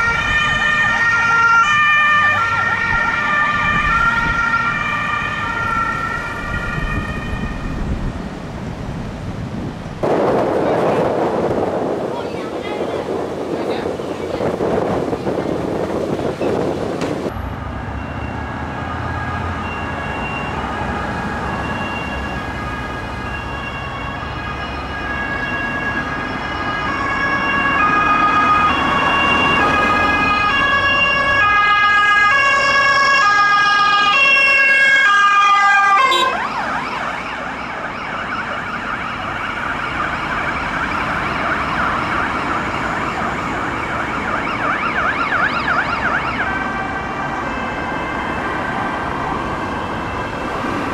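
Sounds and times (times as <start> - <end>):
warbling siren: 0.0 - 8.0, 17.7 - 50.9
two-tone ambulance siren: 0.0 - 8.1, 17.3 - 50.9.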